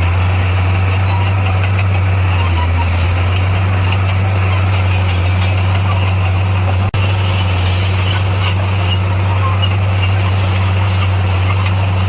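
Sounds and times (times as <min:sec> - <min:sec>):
heavy diesel engine humming: 0:00.0 - 0:12.0.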